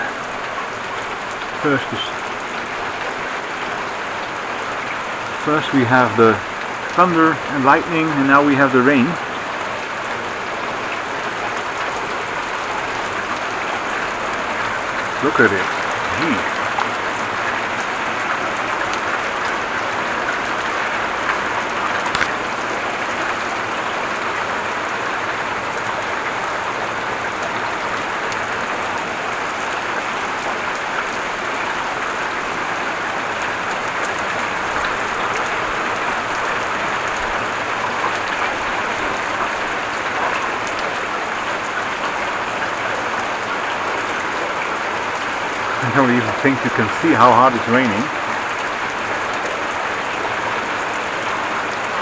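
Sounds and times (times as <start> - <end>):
heavy rain hissing: 0.0 - 52.0.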